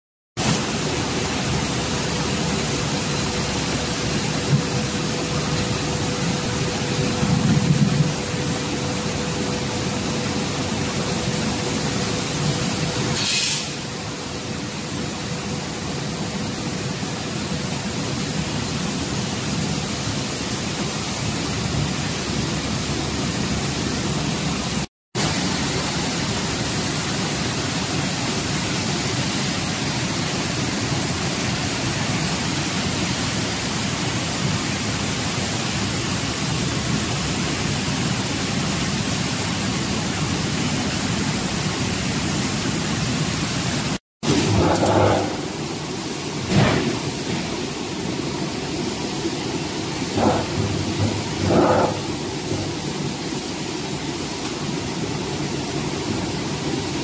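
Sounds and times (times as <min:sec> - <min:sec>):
water churning and hissing: 0:00.4 - 0:57.0.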